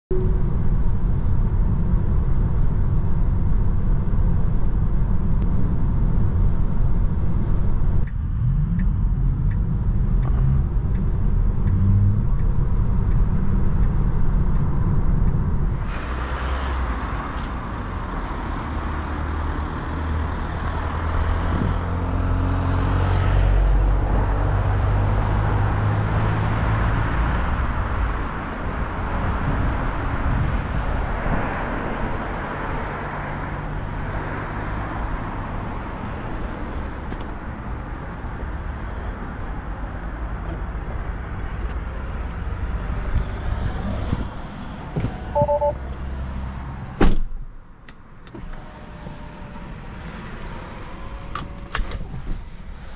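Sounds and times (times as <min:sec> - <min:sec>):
road and tyre noise in car: 0:00.1 - 0:52.9.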